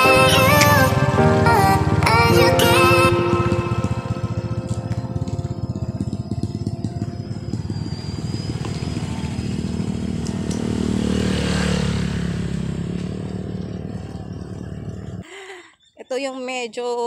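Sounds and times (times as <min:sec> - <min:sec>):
small motorcycle engine running: 0:00.4 - 0:15.2.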